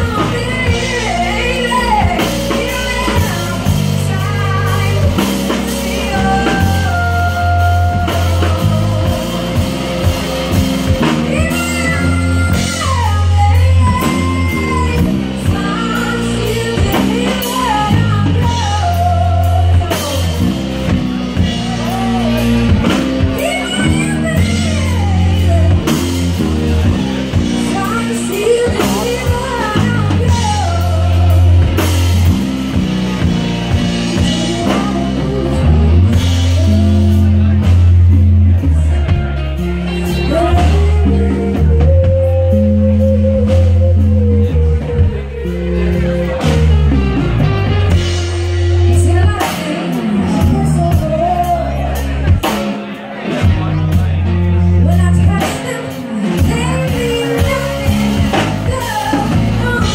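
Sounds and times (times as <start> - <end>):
woman singing into a microphone: 0.0 - 37.9, 39.9 - 47.1, 47.8 - 52.7, 54.8 - 59.9
bass guitar: 0.0 - 59.9
drum kit: 0.0 - 59.9
electric guitar: 0.0 - 59.9.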